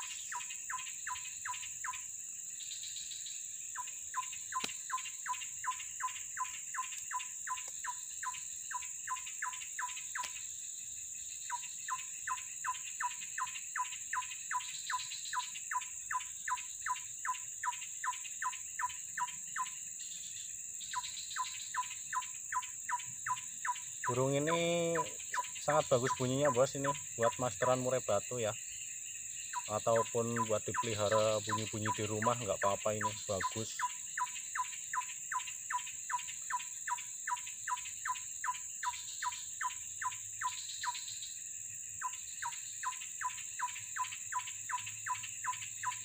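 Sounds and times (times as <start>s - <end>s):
insects droning: 0.0s - 46.0s.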